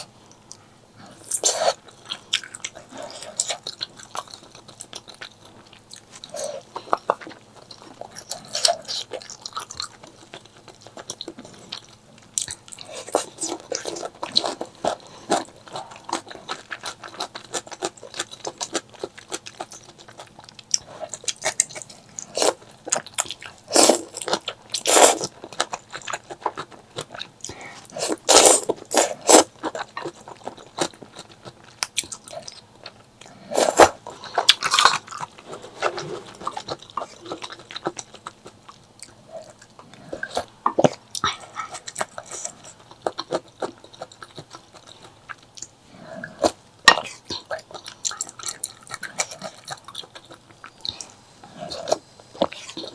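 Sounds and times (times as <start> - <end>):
wet chewing: 1.1 - 52.9.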